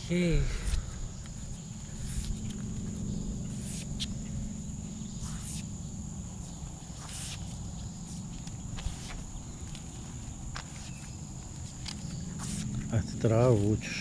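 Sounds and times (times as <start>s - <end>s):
insects trilling: 0.0s - 14.0s
rope scraping over concrete: 0.6s - 13.7s.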